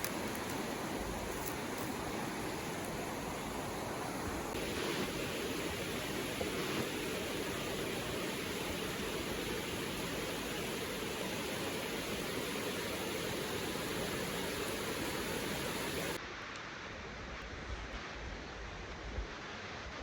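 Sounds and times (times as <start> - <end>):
river water rushing: 0.0 - 16.2.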